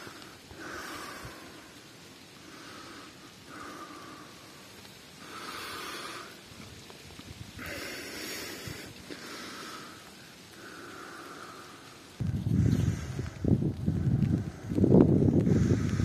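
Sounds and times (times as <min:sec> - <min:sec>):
person breathing: 0:00.0 - 0:06.5, 0:07.6 - 0:16.0.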